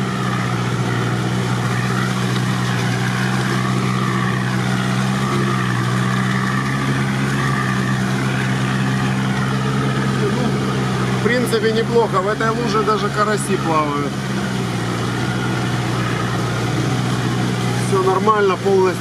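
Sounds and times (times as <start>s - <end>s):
engine running at low revs: 0.0s - 19.0s
vehicle wading through water: 0.0s - 19.0s.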